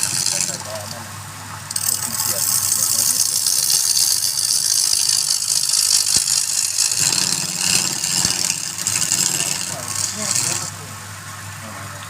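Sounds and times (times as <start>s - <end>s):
tool hissing on spinning wood: 0.0s - 11.2s
lathe motor humming: 0.0s - 12.0s.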